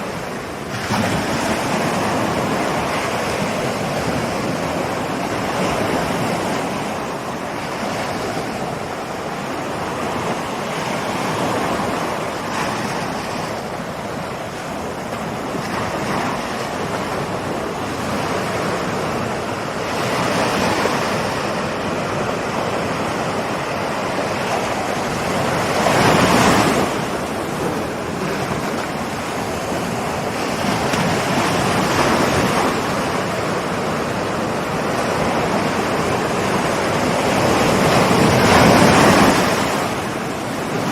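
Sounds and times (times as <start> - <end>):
ocean waves rolling in: 0.0 - 40.9.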